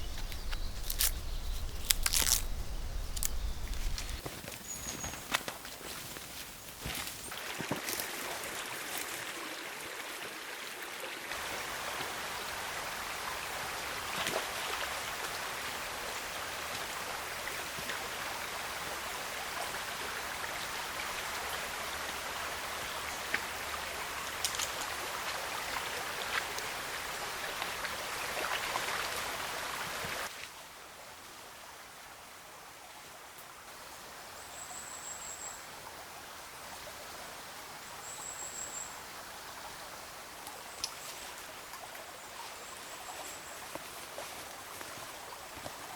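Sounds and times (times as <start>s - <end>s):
small river flowing: 5.6s - 45.9s.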